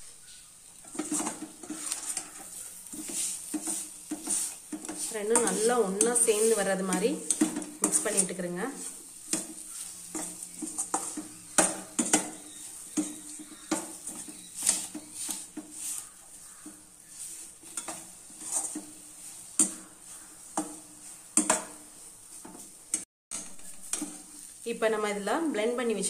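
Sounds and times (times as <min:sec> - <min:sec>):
faint sizzle: 0:00.0 - 0:26.0
spatula scraping cooking pan: 0:00.0 - 0:26.0.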